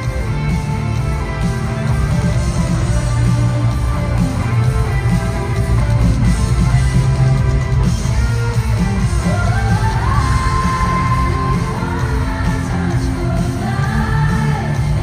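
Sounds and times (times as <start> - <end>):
live pop band playing: 0.0 - 15.0.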